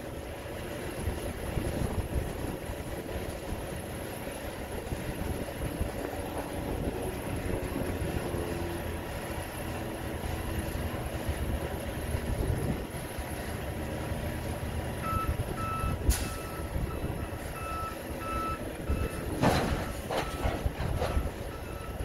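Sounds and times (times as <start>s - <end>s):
truck engine rumbling: 0.0s - 22.0s.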